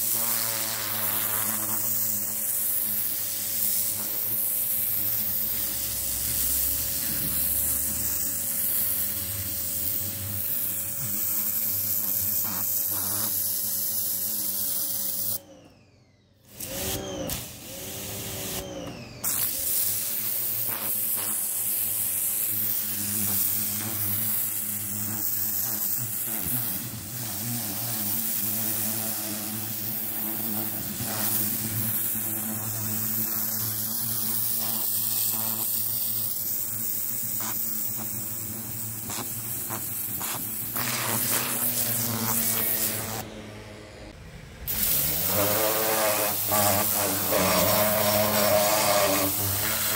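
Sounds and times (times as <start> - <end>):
pressure washer jet hissing on stone: 0.0 - 15.4, 16.7 - 43.3, 44.6 - 49.9
motor and pump humming: 0.0 - 49.9.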